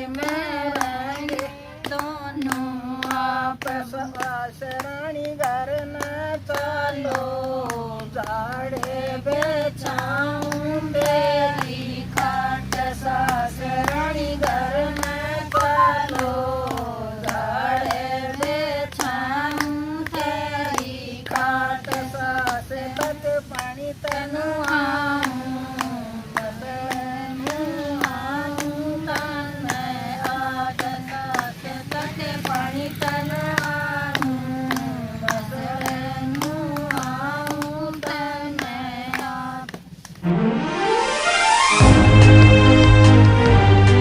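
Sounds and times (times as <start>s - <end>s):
women singing in unison: 0.0s - 40.0s
hand-clapping: 0.0s - 40.3s.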